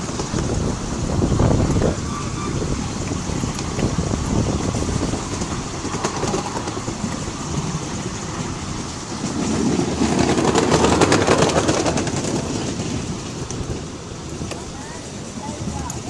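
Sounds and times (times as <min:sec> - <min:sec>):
miniature train wheels rumbling: 0:00.0 - 0:16.0.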